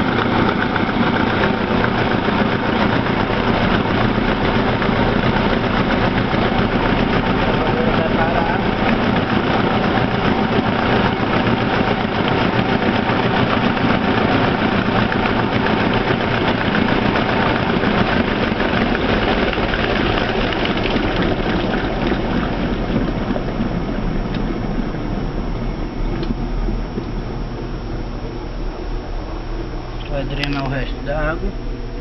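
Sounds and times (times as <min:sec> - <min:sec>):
washing machine spin cycle: 0:00.0 - 0:32.0.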